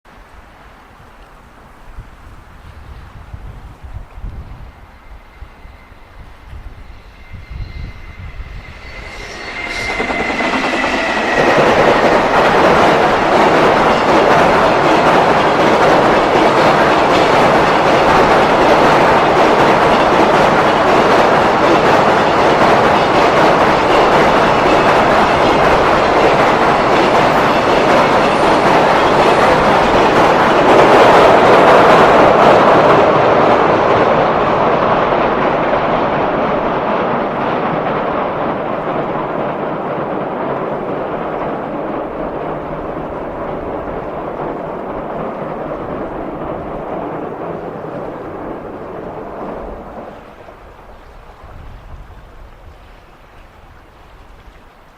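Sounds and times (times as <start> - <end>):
freight train wheels clattering: 4.2 - 50.7.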